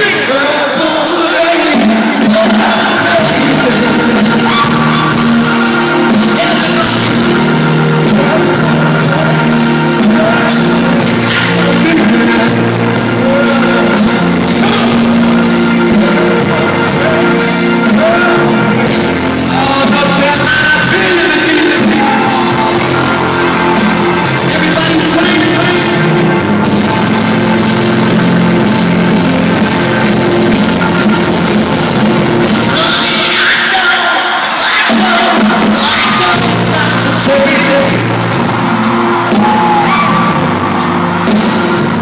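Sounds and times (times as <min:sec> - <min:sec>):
crowd singing along: 0:00.0 - 0:42.0
live rock music with singing: 0:00.0 - 0:42.0.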